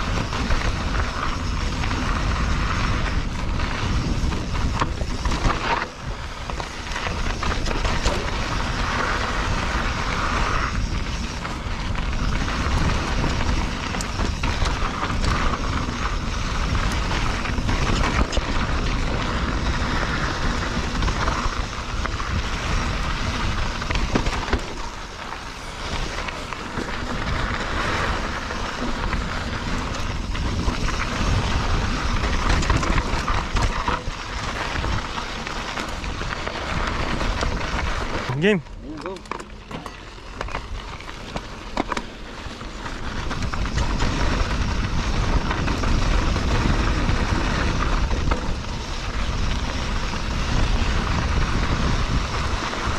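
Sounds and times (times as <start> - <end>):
wind buffeting microphone: 0.0 - 38.9, 39.5 - 52.9
bike rattling over bumps: 0.0 - 52.9
bike tyres rolling on dirt: 0.0 - 52.9.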